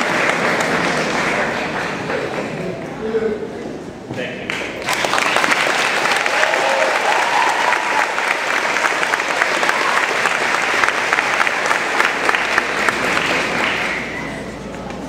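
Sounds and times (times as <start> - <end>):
audience applause: 0.0 - 2.6, 4.8 - 14.5.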